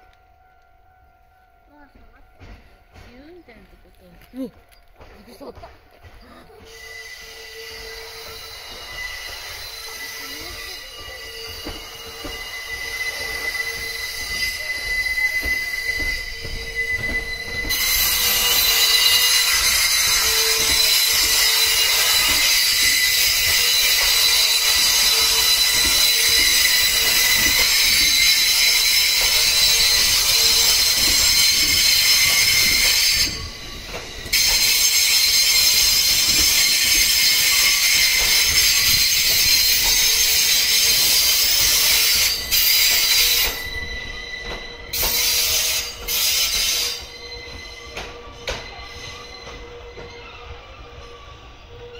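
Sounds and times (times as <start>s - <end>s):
train wheels squealing on rails: 0.0s - 51.9s.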